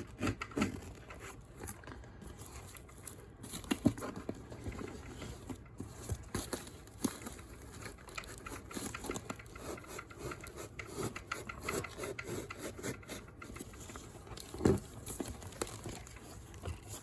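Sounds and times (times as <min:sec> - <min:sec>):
hands rustling parcel wrapping: 0:00.0 - 0:17.0.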